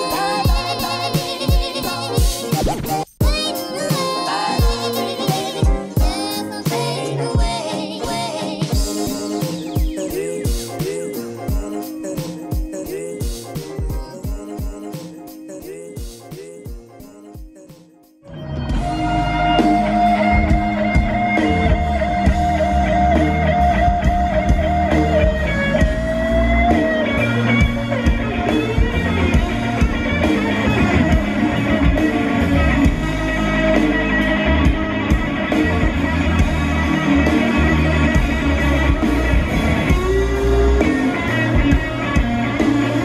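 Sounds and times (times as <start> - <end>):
blues-rock band playing loudly: 0.0 - 17.0, 18.3 - 43.0
electric guitar lead: 0.0 - 17.4, 18.2 - 43.0.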